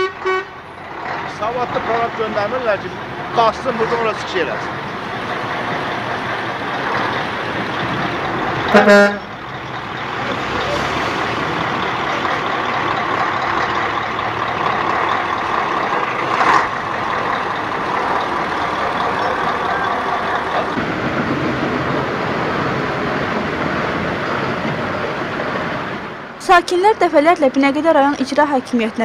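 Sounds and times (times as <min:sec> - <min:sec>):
heavy trucks on muddy road: 0:00.0 - 0:29.0.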